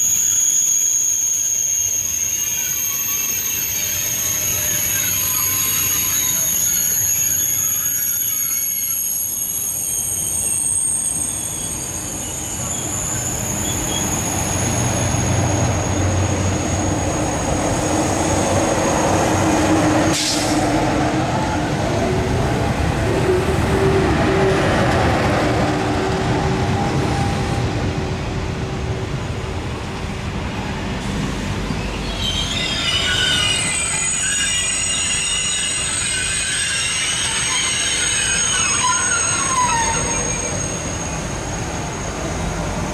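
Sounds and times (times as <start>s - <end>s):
train wheels squealing: 0.0s - 27.7s, 31.0s - 42.9s
train rumbling: 1.6s - 42.9s.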